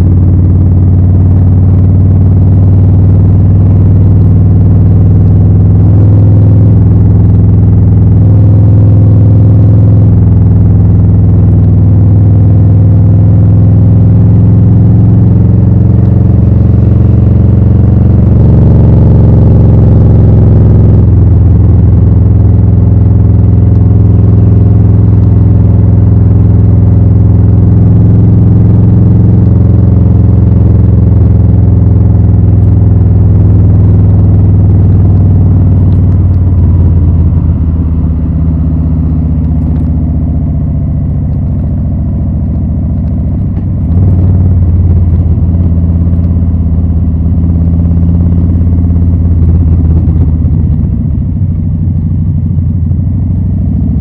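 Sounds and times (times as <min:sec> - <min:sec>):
motorcycle exhaust: 0:00.0 - 0:54.0.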